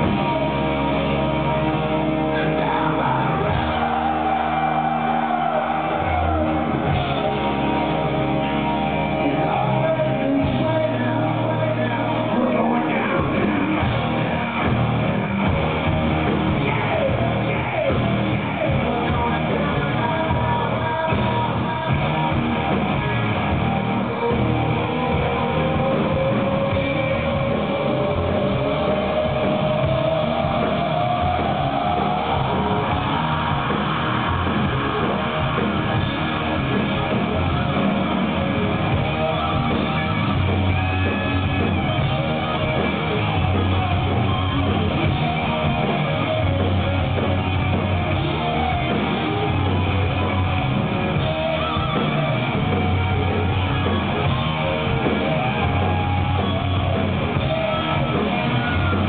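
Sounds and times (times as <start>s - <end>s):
electric guitar gliding upward: 0.0s - 59.0s
live rock band playing: 0.0s - 59.0s.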